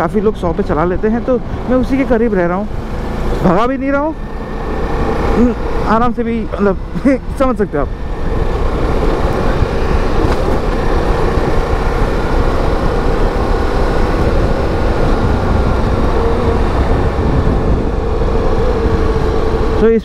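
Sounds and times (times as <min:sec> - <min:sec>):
heavy wind rush: 0:00.0 - 0:20.0
motorcycle engine humming: 0:00.0 - 0:20.0.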